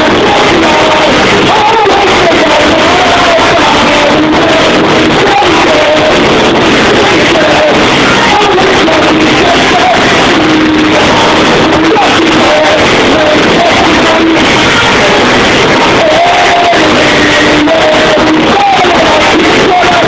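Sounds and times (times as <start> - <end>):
lead singer singing: 0.0 - 20.0.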